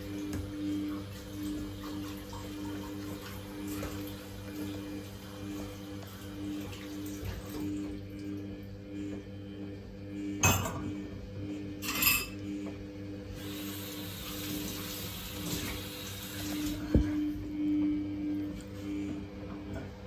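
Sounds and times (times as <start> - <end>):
washing machine pulsing hum: 0.0 - 20.0.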